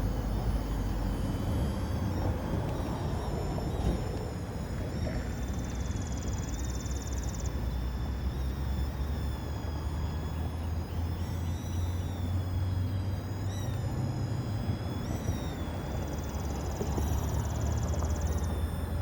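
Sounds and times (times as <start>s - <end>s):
toy drone whining: 0.0s - 19.0s.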